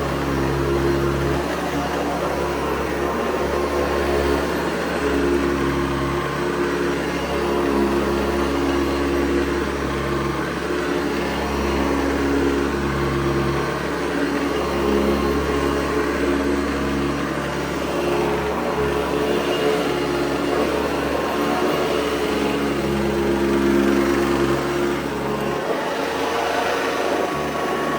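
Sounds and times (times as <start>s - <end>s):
vacuum cleaner motor humming: 0.0s - 27.9s.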